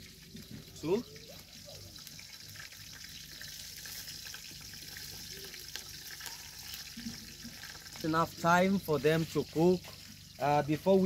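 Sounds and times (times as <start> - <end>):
onions and tomatoes sizzling: 0.0 - 11.0.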